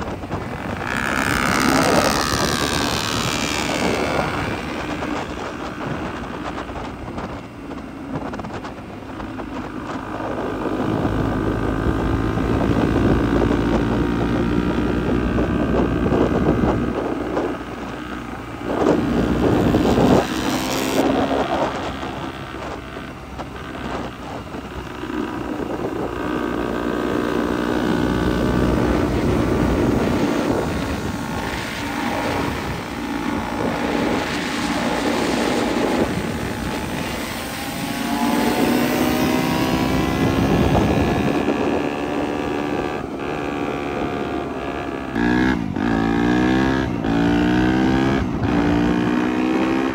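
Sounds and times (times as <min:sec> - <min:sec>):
dirt bike engines: 0:00.0 - 0:49.9
wind buffeting microphone: 0:00.0 - 0:49.9.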